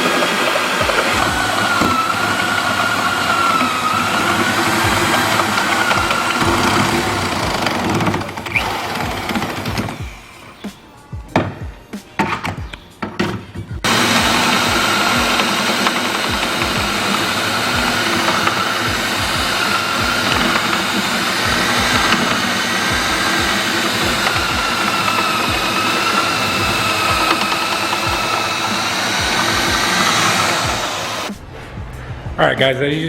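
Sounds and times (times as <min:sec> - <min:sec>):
power drill grinding through metal: 0:00.0 - 0:10.6, 0:13.8 - 0:31.3.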